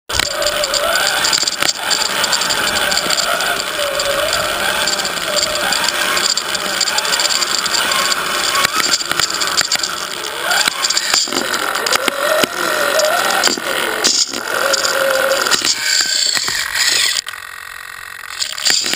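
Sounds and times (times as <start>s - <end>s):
toy car electric motor whining: 0.1s - 18.9s.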